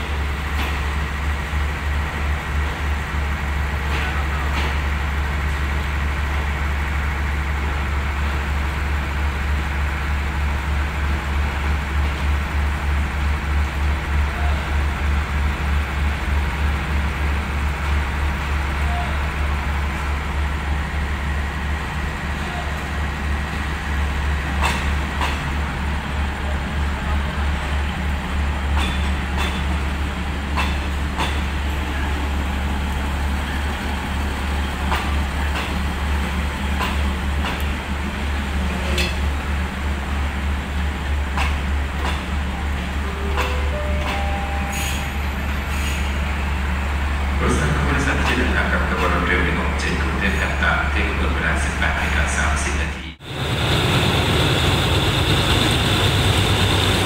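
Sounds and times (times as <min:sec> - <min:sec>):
diesel train rumbling: 0:00.0 - 0:57.0.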